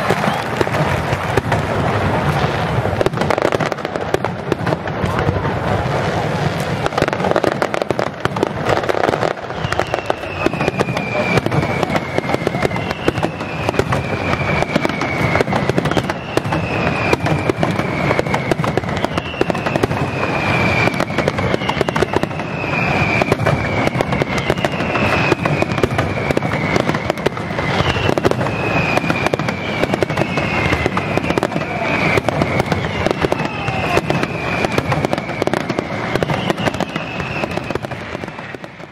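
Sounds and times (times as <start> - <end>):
fireworks crackling bangs: 0.0 - 38.9
fireworks falling whistles: 0.0 - 38.9.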